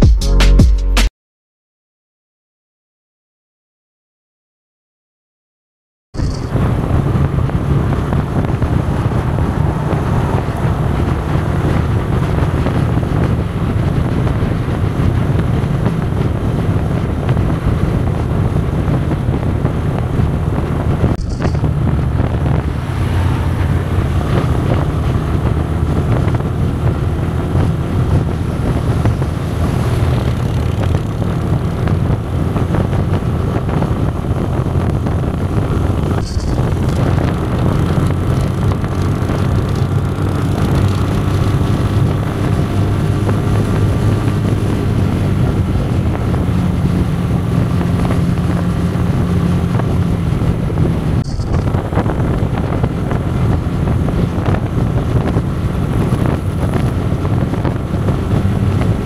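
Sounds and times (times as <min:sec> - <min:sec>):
motorcycle engine rumble: 0:06.2 - 0:59.0
wind rushing over microphone: 0:06.2 - 0:59.0.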